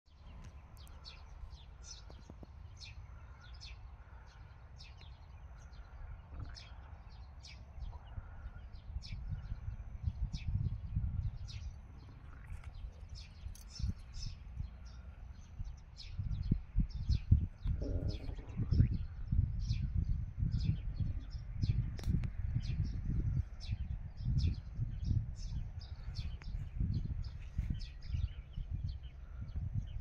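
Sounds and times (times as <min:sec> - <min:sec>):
small birds chirping: 0:00.1 - 0:30.0
wind rumble on microphone: 0:00.1 - 0:30.0.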